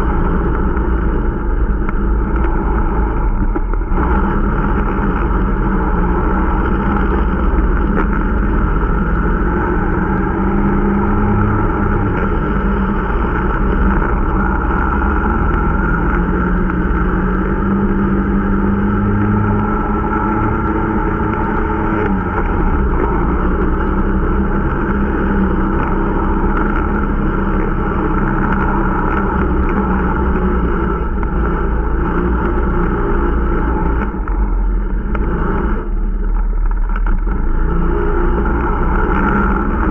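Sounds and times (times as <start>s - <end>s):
deep rumble: 0.0s - 39.9s
snowmobile engine running: 0.0s - 39.9s.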